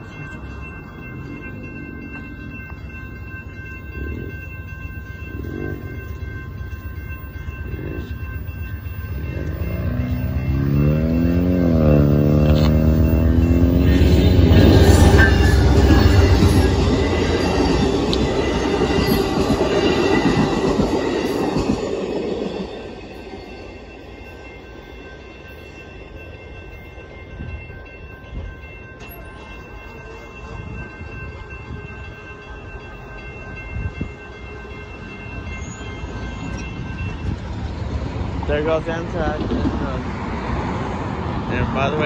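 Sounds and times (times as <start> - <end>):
crossing warning bell ringing: 0.0 - 42.0
train passing loudly: 0.0 - 42.0.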